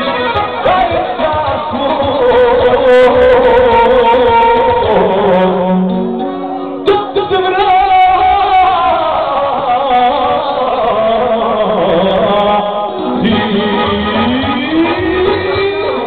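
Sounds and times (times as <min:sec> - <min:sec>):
accordion chords: 0:00.0 - 0:16.0
man singing into microphone: 0:00.0 - 0:16.0.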